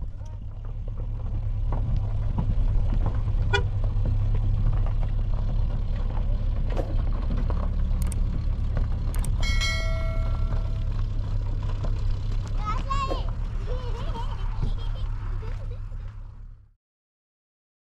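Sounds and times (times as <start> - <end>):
car engines running: 0.0 - 16.8.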